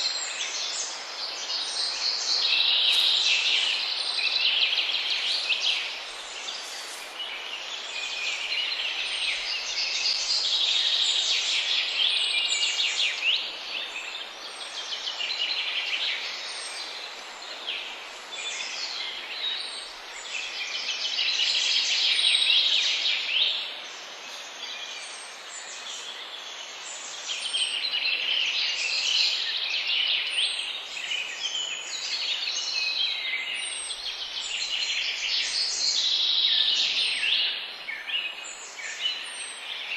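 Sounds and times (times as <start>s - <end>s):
background hiss: 0.0s - 39.9s
songbirds chirping and trilling: 0.0s - 39.9s.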